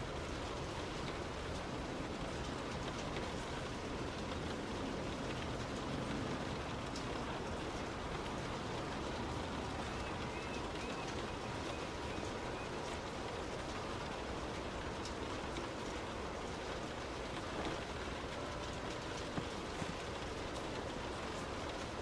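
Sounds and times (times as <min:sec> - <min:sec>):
heavy rain on a car: 0:00.0 - 0:22.0.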